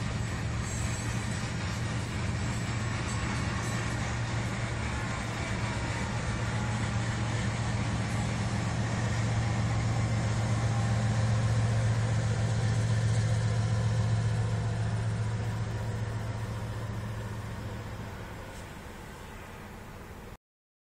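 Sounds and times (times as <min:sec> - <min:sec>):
low engine drone: 0:00.0 - 0:20.4.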